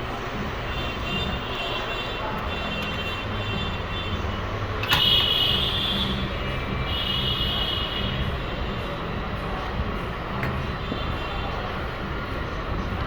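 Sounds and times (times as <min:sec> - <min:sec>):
rumble of road traffic: 0:00.0 - 0:13.0.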